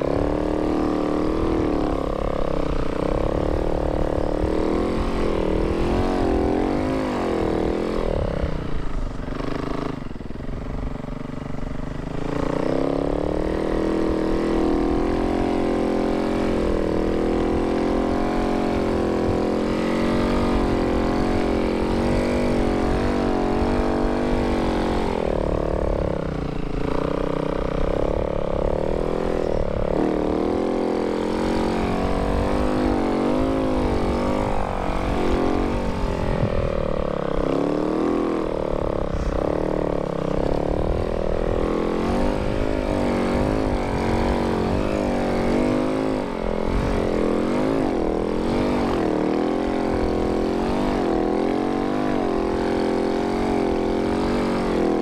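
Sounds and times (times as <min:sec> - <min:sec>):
track rumble: 0:00.0 - 0:52.7
dirt bike engine revving: 0:00.0 - 0:55.0
wind: 0:00.0 - 0:55.0.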